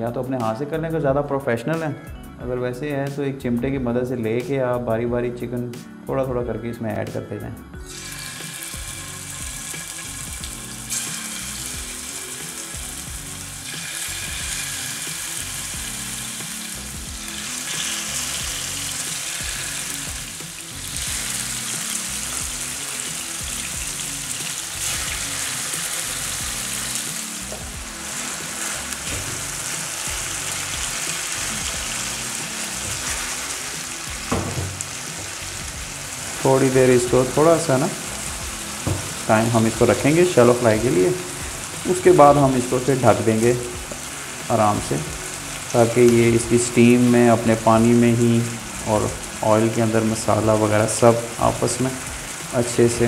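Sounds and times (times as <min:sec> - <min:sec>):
background music: 0:00.0 - 0:53.0
chicken sizzling in hot oil: 0:07.8 - 0:53.0.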